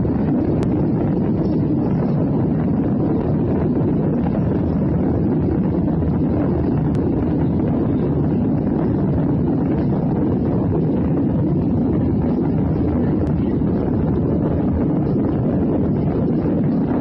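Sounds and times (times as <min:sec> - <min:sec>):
airliner cabin roar: 0:00.0 - 0:17.0.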